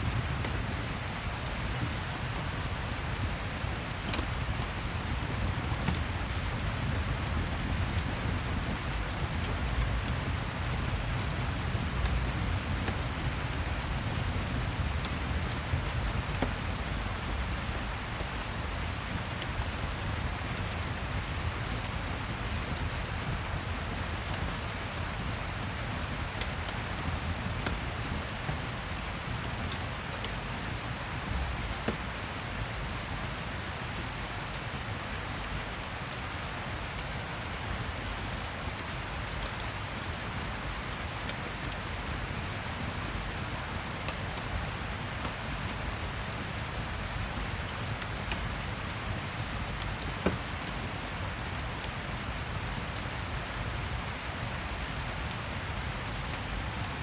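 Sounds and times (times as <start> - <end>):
faint fireplace crackles: 0.0 - 57.0
steady rain falling: 0.0 - 57.0.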